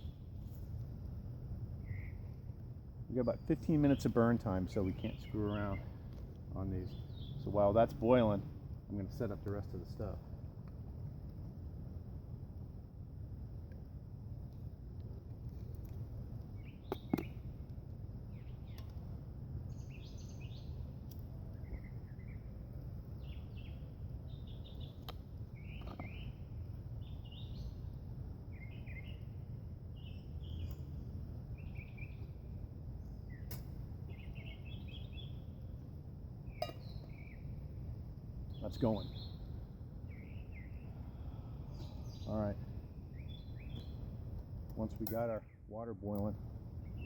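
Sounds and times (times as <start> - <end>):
small birds chirping: 1.8 - 2.4, 3.1 - 10.9, 14.6 - 47.0.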